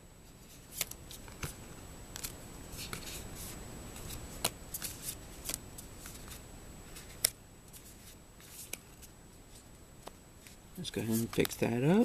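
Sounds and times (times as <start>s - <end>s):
cards clicking and sliding: 0.5s - 9.1s, 10.0s - 12.0s.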